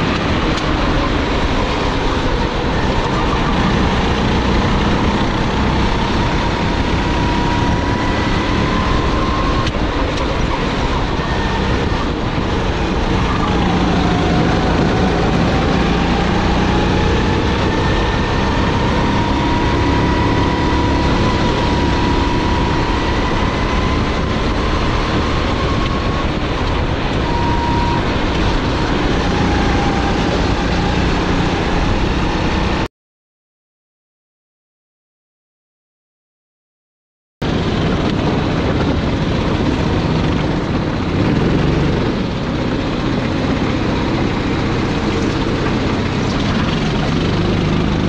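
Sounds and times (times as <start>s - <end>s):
kart engine running hard: 0.0s - 32.9s, 37.4s - 48.0s
rush of noise: 0.0s - 32.9s, 37.4s - 48.0s.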